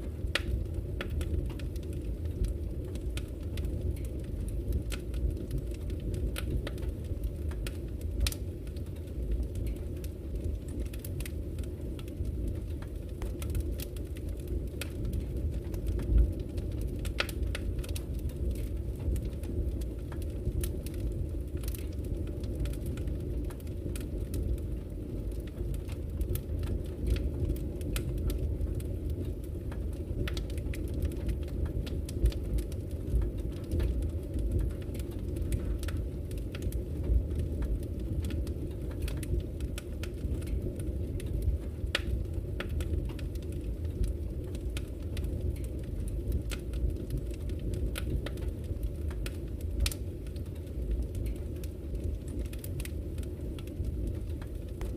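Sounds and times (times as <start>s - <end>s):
low rumble of burning logs: 0.0s - 54.9s
wood fire crackling: 0.0s - 54.9s.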